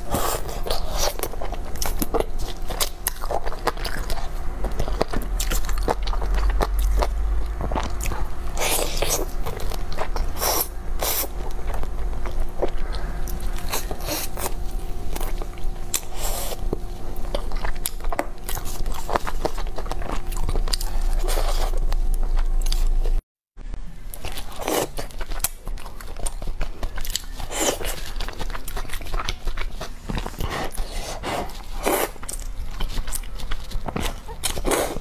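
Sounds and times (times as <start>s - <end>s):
wet chewing and lip-smacking: 0.0s - 23.2s, 24.1s - 35.0s.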